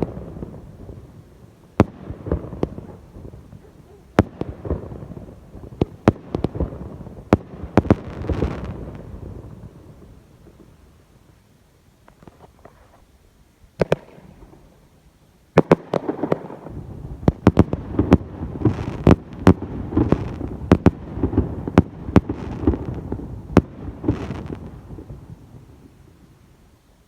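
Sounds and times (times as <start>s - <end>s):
fireworks bangs and crackles: 0.0s - 10.9s, 13.8s - 14.7s, 15.5s - 26.2s.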